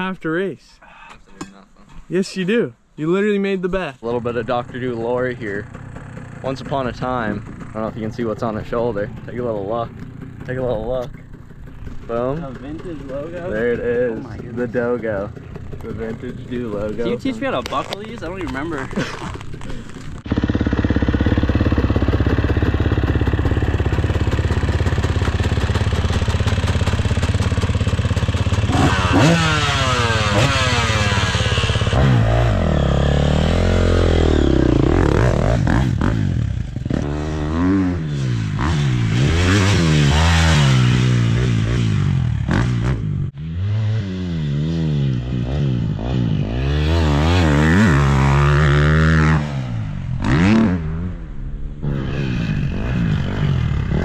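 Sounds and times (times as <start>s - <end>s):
dirt bike engine revving: 4.0s - 54.0s.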